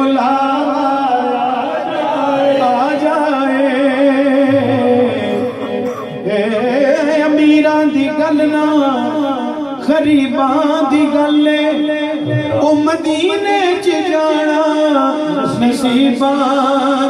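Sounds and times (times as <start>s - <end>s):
man singing over loudspeaker: 0.0s - 17.0s.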